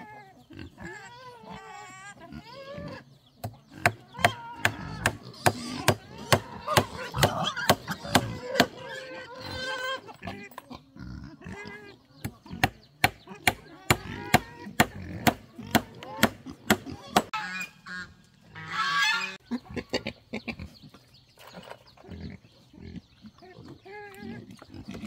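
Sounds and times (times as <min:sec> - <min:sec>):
harsh farm animal call: 0:00.0 - 0:25.0.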